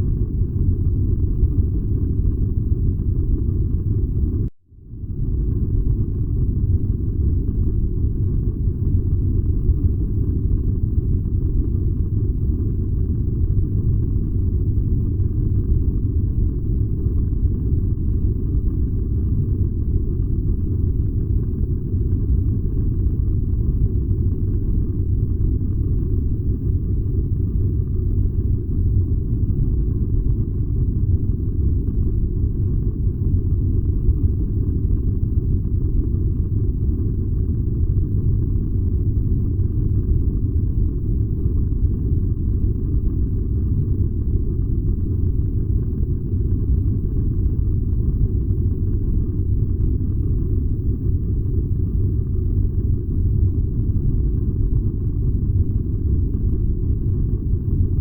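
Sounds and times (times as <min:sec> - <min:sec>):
furnace deep rumble: 0:00.0 - 0:58.0.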